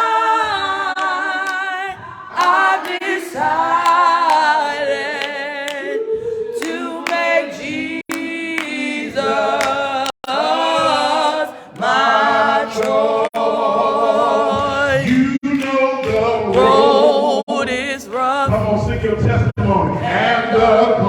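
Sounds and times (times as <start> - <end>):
unaccompanied hymn singing: 0.0 - 21.0.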